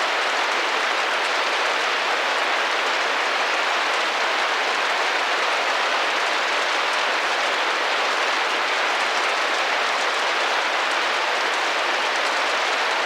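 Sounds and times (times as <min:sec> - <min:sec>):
rain drumming against a window: 0:00.0 - 0:13.0.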